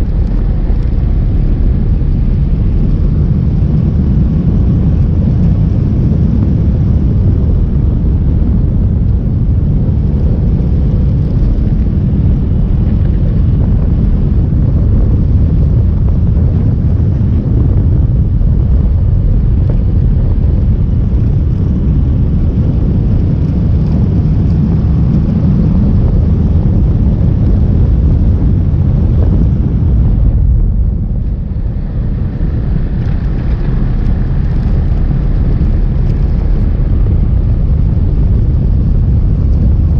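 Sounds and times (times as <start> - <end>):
road noise: 0.0 - 39.9
vehicle rumble on road: 0.0 - 39.9
wind noise: 0.0 - 39.9.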